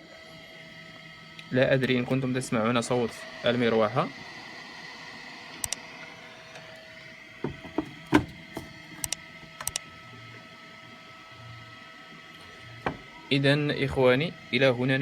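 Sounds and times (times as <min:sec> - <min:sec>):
charger cooling fan humming: 0:00.0 - 0:15.0.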